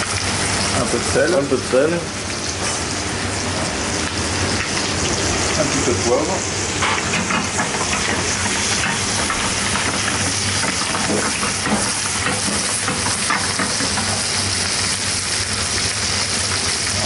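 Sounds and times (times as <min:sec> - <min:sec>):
food sizzling in butter: 0:00.0 - 0:17.0.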